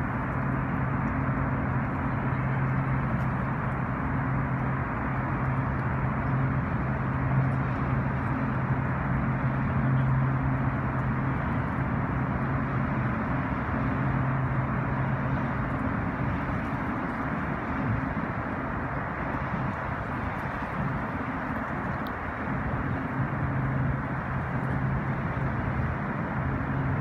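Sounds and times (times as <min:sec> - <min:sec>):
boat engines droning: 0:00.0 - 0:27.0
rushing water noise: 0:00.0 - 0:27.0.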